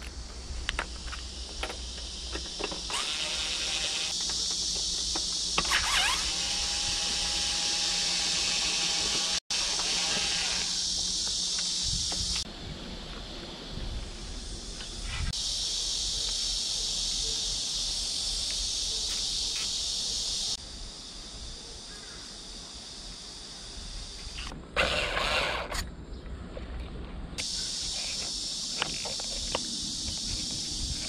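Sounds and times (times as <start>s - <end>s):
cicadas buzzing: 0.0s - 26.5s, 27.3s - 31.0s.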